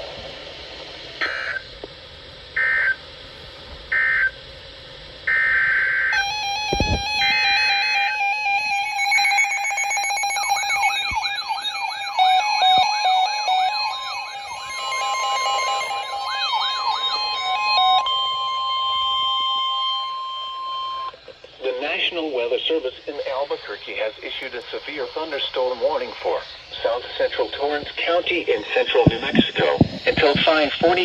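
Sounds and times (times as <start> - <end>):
digital data tone bursts: 5.3 - 31.0.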